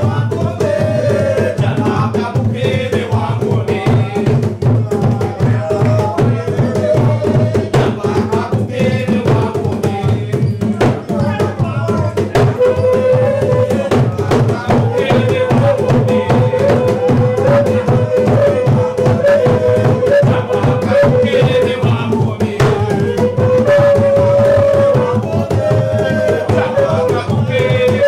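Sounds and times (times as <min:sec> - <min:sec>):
hand drums fast rhythm: 0:00.0 - 0:28.0
person singing: 0:00.0 - 0:28.0.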